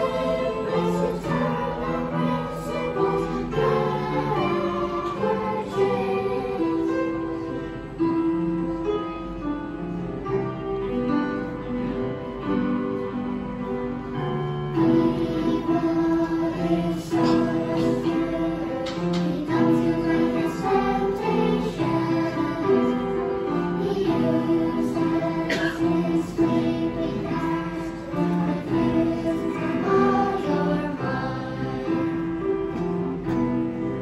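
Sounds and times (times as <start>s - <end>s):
children's choir singing: 0.0s - 34.0s
instrumental accompaniment: 0.0s - 34.0s.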